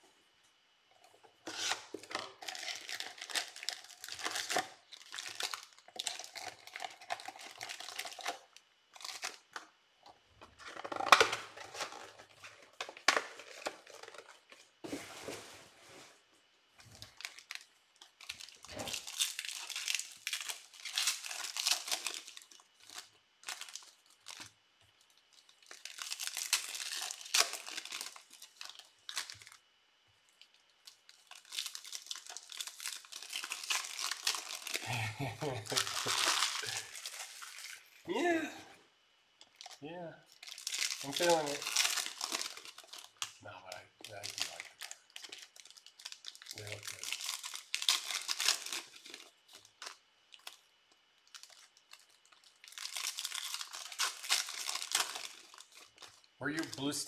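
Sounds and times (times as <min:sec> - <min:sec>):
wrappers tearing and crinkling: 0:01.4 - 0:09.7, 0:10.5 - 0:14.9, 0:16.8 - 0:29.7, 0:30.3 - 0:38.5, 0:39.4 - 0:57.0.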